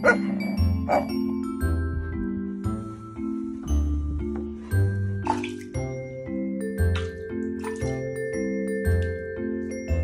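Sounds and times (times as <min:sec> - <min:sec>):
light background music with bass: 0:00.0 - 0:10.0.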